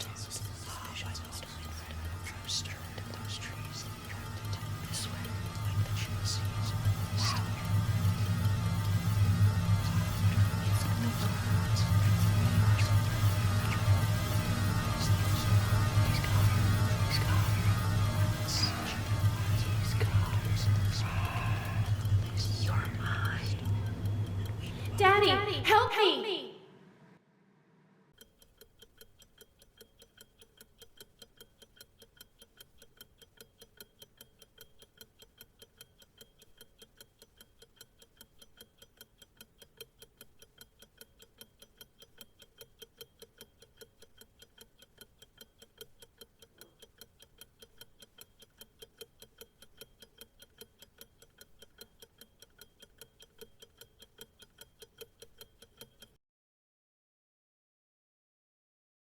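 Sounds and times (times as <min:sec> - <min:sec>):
clock ticking fast: 0:00.0 - 0:25.9, 0:28.1 - 0:56.2.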